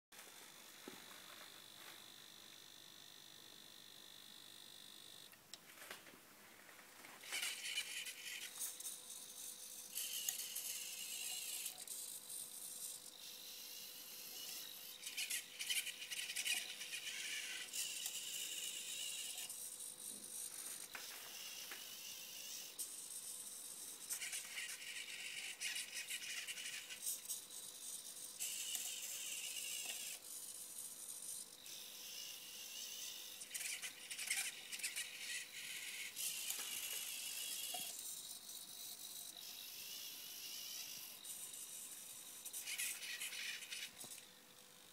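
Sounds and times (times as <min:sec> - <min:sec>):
robotic arm motors whirring: 0:00.3 - 0:05.3, 0:07.1 - 0:44.3.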